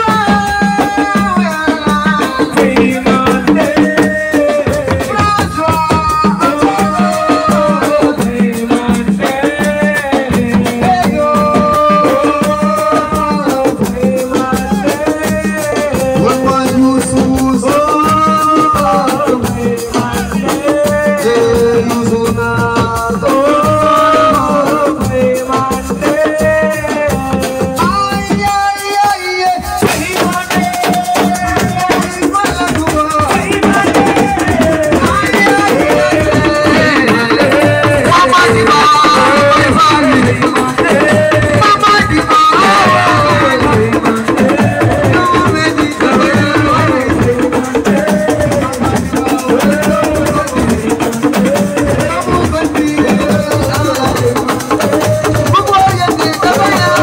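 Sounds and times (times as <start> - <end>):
drums: 0.0 - 57.0
person singing a melody: 0.0 - 57.0.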